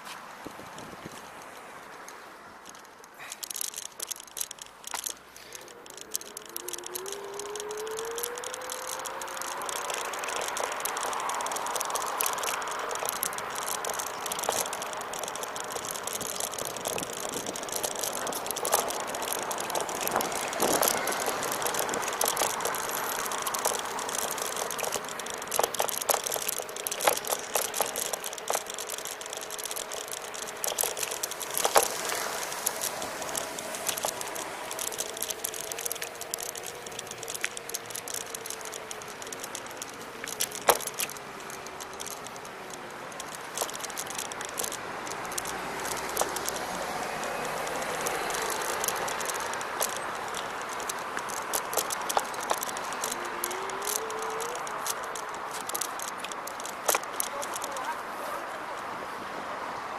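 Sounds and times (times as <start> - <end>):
scooter rattling clicks: 0.0 - 58.9
electric scooter motor whine: 4.9 - 57.8.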